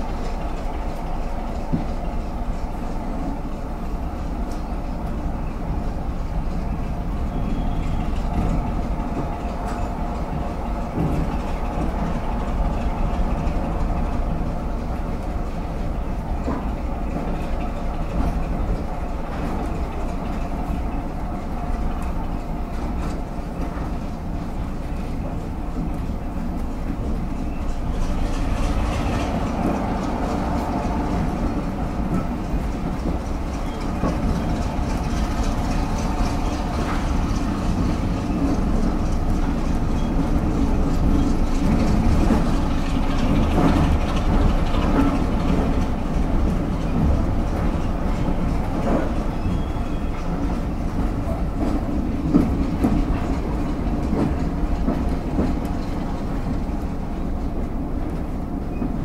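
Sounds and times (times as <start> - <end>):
diesel locomotive engine running: 0.0 - 59.0
railway carriage rumble: 0.0 - 59.0
wheels clicking over rail joints: 0.0 - 59.0.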